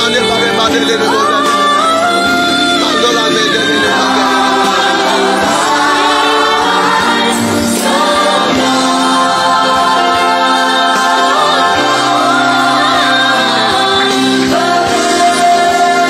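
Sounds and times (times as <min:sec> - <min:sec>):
gospel music with voices singing: 0:00.0 - 0:16.0.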